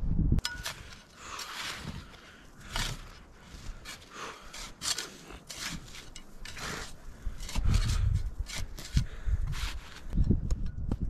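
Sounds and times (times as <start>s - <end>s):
shovel scraping packed snow: 0.5s - 10.1s.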